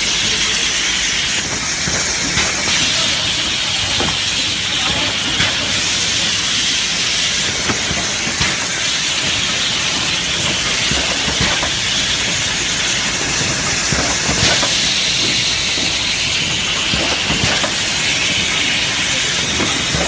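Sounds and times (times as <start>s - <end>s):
machine hissing: 0.0s - 20.0s.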